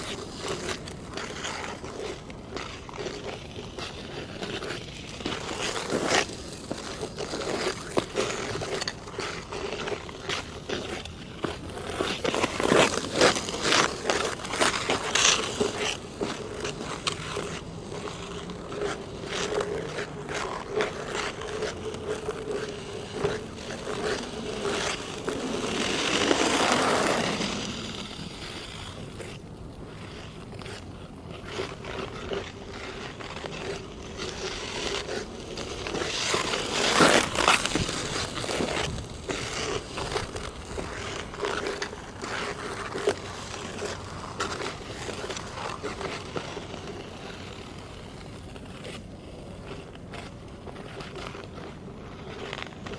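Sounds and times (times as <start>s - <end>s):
ice skate blades scraping ice: 0.0s - 52.9s.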